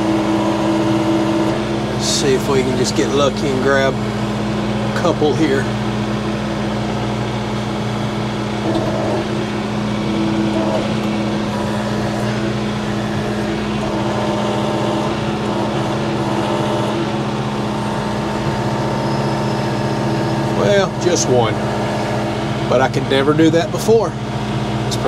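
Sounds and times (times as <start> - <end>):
hydraulics whining: 0.0 - 25.0
tractor diesel engine running: 0.0 - 25.0.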